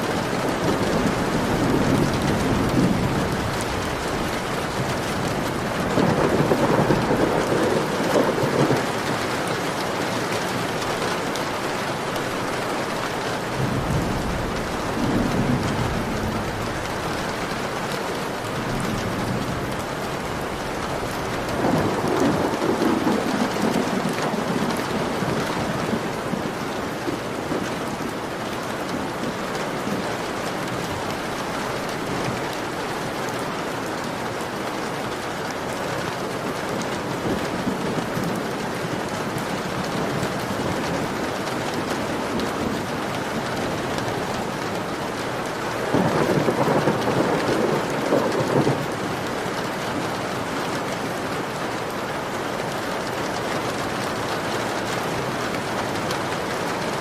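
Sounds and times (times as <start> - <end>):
heavy rain on window glass: 0.0 - 57.0.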